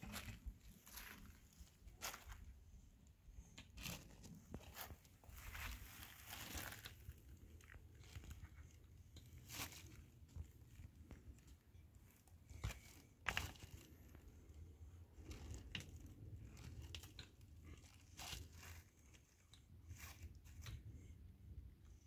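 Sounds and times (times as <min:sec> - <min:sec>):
crunching and rustling: 0:00.0 - 0:02.7, 0:03.6 - 0:20.9.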